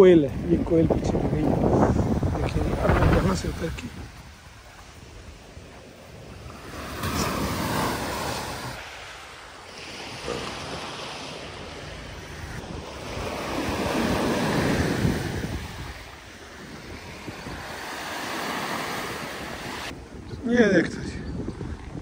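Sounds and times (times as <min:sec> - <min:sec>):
wind on microphone: 0:00.0 - 0:22.0
waves washing up a beach: 0:01.2 - 0:20.0.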